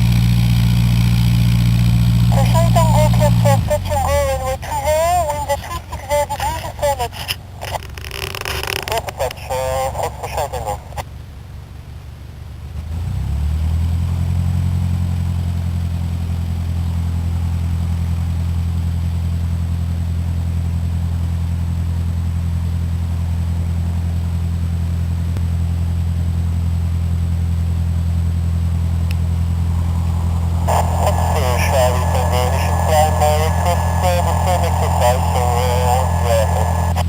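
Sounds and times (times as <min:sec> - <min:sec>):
light aircraft engine and propeller: 0:00.0 - 0:37.0.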